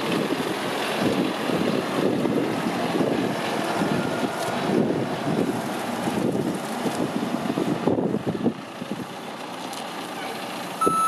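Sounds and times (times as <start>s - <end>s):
wind buffeting microphone: 0.0s - 9.2s
diesel engine running: 0.0s - 11.0s.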